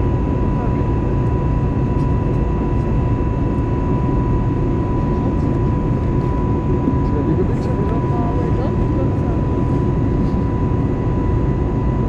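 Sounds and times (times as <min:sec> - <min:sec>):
airliner cabin noise: 0:00.0 - 0:12.0
constant thin whine: 0:00.0 - 0:12.0.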